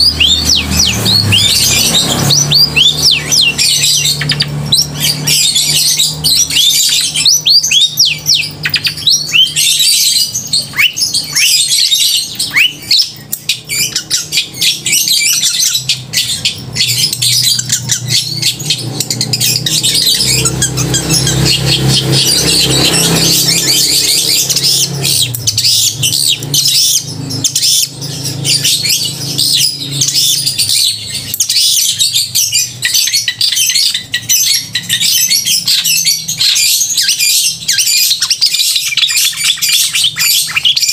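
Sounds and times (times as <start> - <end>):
shrike singing harsh chatter: 0.0 - 40.9.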